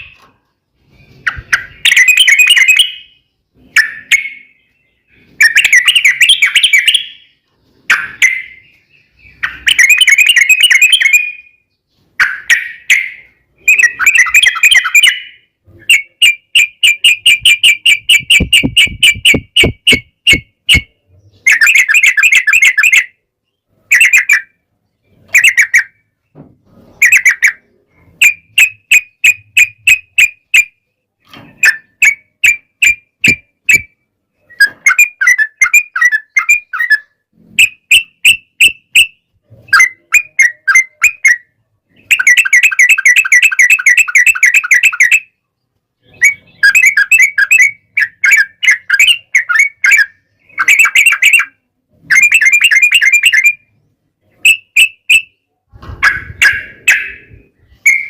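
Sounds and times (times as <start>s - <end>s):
bulbul chattering song: 0.0s - 26.3s, 27.0s - 31.0s, 31.6s - 58.0s.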